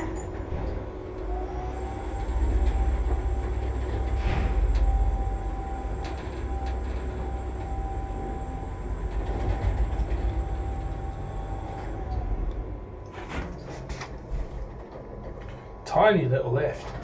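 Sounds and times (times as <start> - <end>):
lift motor whine: 0.0 - 17.0
lift rumble: 0.0 - 17.0.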